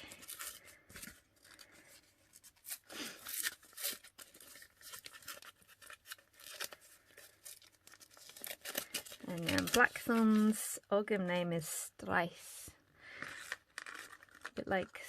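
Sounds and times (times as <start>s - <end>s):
packet rustling and crinkling: 0.0s - 10.8s, 13.0s - 15.0s.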